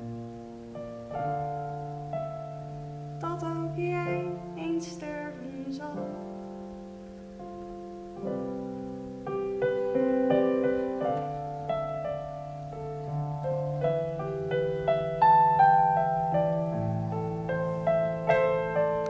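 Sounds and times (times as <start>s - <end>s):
digital piano playing held chords: 0.0s - 19.0s.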